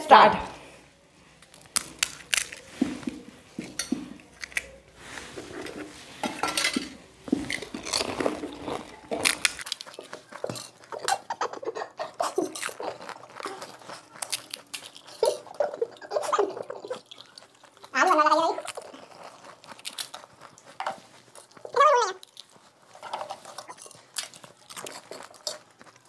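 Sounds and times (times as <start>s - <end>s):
puri shells cracking: 1.4s - 4.8s, 7.4s - 26.0s
crunching and chewing: 1.4s - 26.0s.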